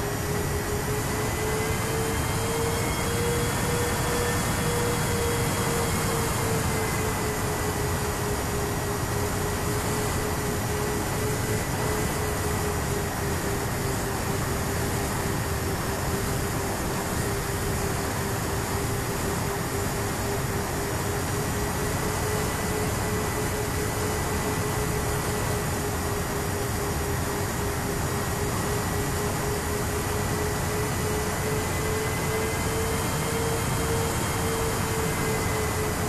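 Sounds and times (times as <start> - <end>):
electric motors and propellers whining: 0.0 - 36.0
rush of wind: 0.0 - 36.0.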